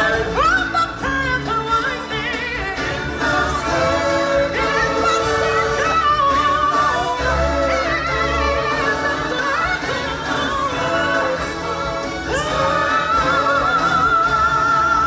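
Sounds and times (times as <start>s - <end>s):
singing over instruments: 0.0s - 15.0s.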